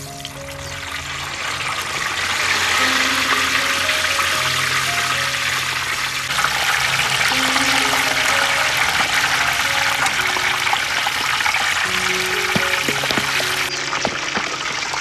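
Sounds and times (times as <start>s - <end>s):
soft background music: 0.0s - 1.7s, 2.5s - 15.0s
deep-frying in hot oil: 0.0s - 15.0s.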